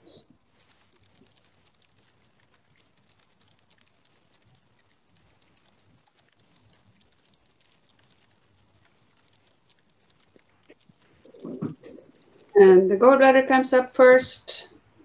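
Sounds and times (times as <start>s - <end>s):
faint light clicks and taps: 0.0s - 12.6s.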